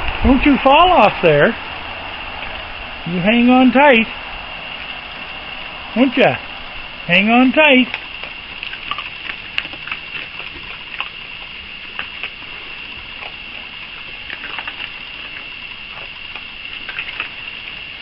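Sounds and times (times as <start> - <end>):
steady high-pitched tone: 0.0 - 18.0.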